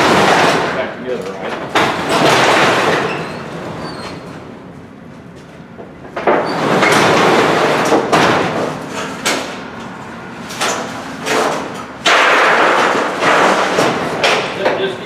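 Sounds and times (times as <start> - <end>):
garage door rattling and scraping: 0.0 - 4.6, 6.0 - 15.0.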